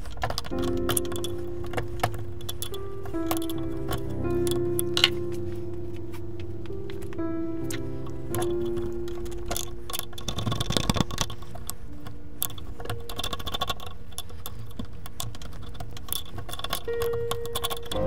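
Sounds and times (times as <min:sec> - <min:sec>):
background music with held notes: 0:00.1 - 0:15.5, 0:16.1 - 0:18.0.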